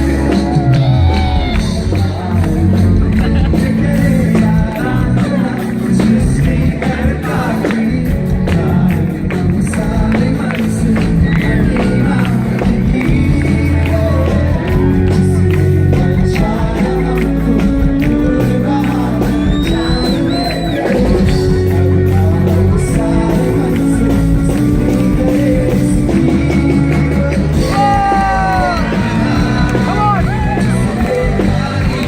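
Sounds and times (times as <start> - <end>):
loud band music with singer: 0.0 - 32.0.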